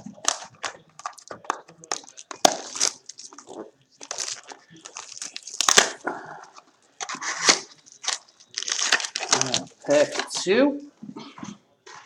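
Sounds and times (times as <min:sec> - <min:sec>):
wrapper rustling and crinkling: 0:00.0 - 0:10.6.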